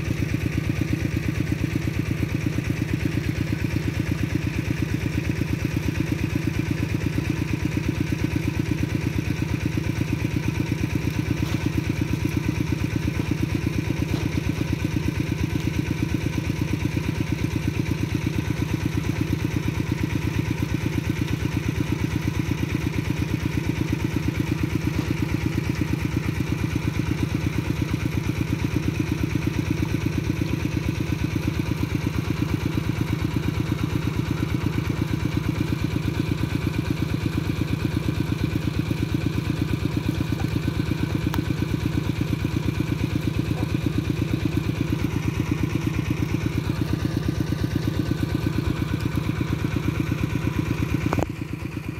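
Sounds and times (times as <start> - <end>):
small engine idling: 0.0 - 51.9.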